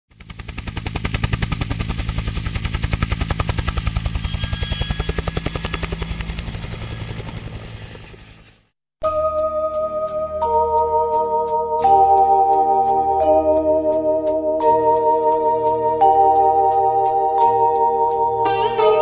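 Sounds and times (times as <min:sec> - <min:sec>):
helicopter rotor beating: 0:00.1 - 0:08.6, 0:09.3 - 0:19.0.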